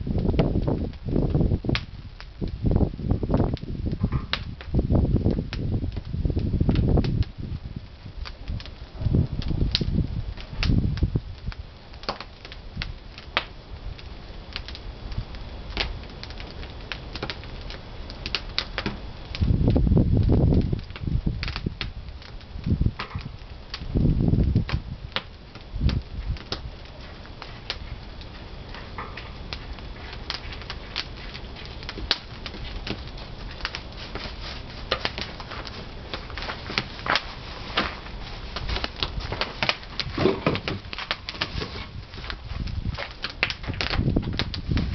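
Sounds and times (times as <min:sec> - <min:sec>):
firewood crackling and popping: 0:00.0 - 0:44.9
low rumbling of fire: 0:00.0 - 0:44.9.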